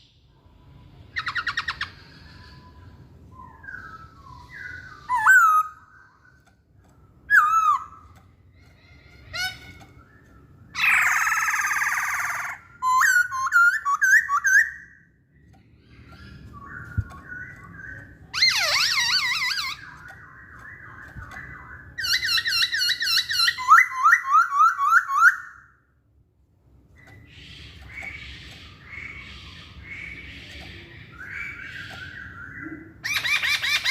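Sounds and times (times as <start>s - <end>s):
laughingthrush singing whistled song: 1.1s - 8.2s, 8.9s - 25.8s, 27.0s - 33.9s.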